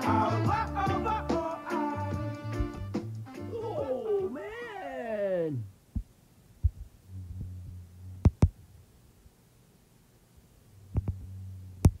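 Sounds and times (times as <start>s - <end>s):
low steady hum: 2.3s - 12.0s.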